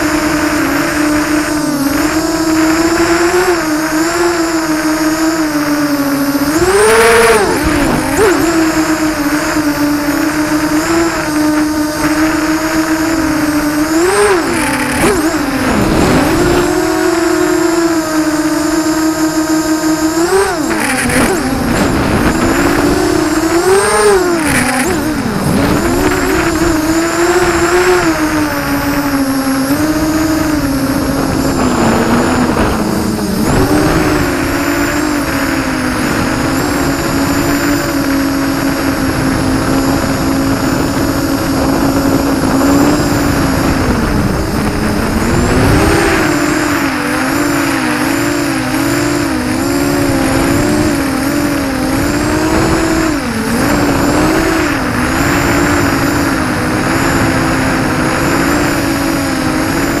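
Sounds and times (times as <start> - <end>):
drone motors whining: 0.0 - 60.0.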